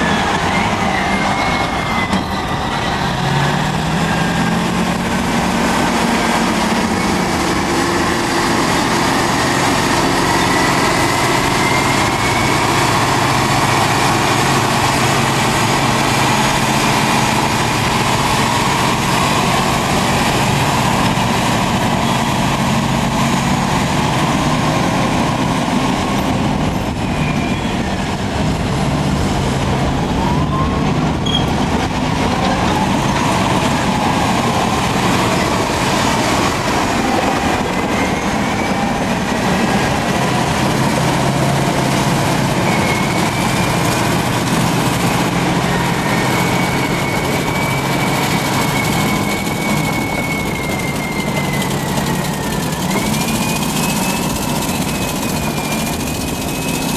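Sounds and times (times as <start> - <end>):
steel track squeals: 0.0 - 28.6, 29.6 - 56.9
diesel engine under load: 0.0 - 56.9.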